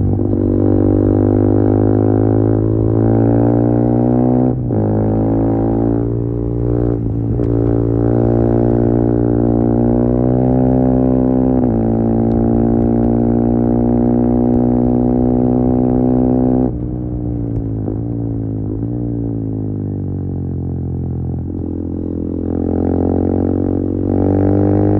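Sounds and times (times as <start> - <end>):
motorcycle engine droning: 0.0 - 24.9.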